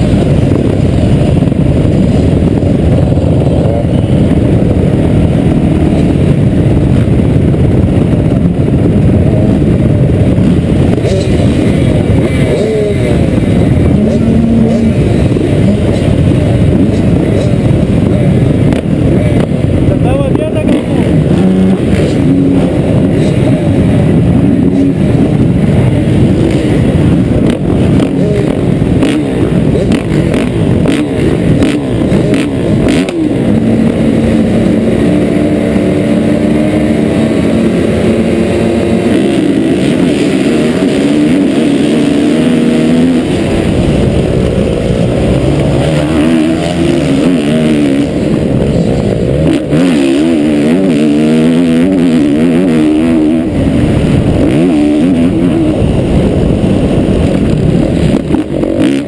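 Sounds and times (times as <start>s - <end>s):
motocross engines revving: 0.0s - 59.0s
motorbike accelerating hard: 0.0s - 59.0s.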